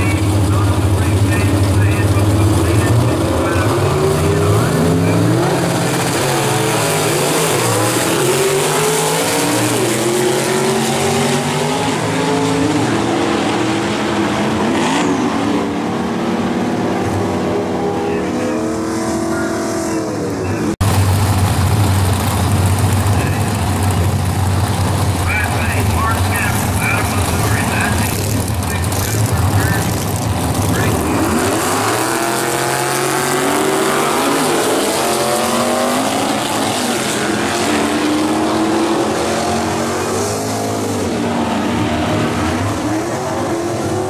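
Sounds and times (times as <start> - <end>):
car engines idling: 0.0 - 44.0
drag car engines revving: 0.0 - 44.0.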